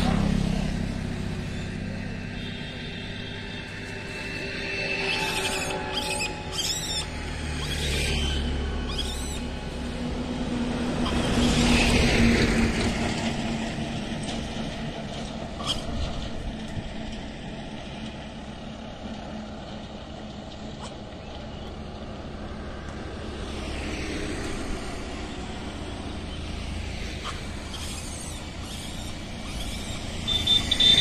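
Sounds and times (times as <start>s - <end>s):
vehicle passing: 0.0s - 31.0s.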